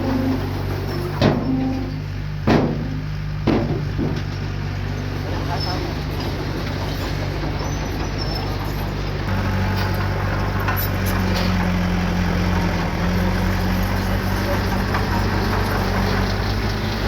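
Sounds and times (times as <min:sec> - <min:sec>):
heavy diesel machinery engine: 0:00.0 - 0:17.0.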